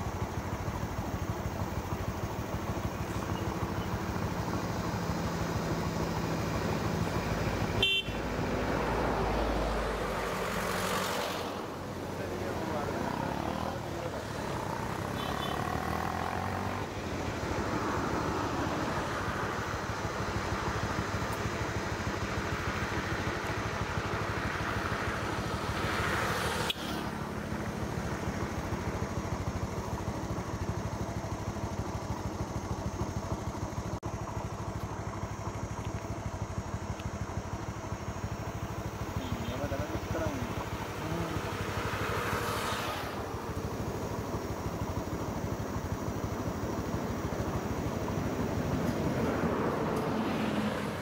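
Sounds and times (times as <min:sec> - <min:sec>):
engine running with pulsing throb: 0:00.0 - 0:10.7, 0:11.4 - 0:51.0.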